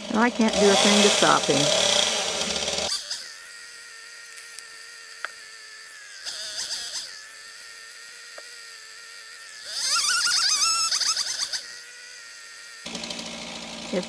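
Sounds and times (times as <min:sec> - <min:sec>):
chainsaw cutting tree trunk: 0:00.0 - 0:14.0
chainsaw idling and revving: 0:00.0 - 0:14.0.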